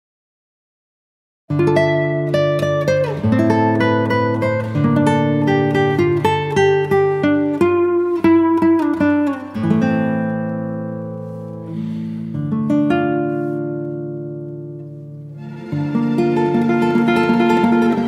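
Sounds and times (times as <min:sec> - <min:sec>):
acoustic guitar music: 0:01.5 - 0:18.0.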